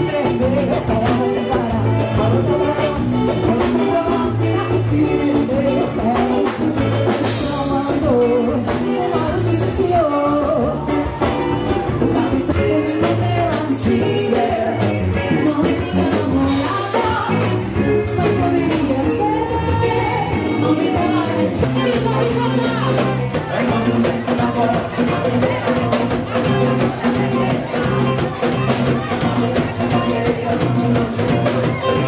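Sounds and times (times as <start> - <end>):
drum kit beat: 0.0 - 32.0
guitar: 0.0 - 32.0
person singing: 0.0 - 32.0.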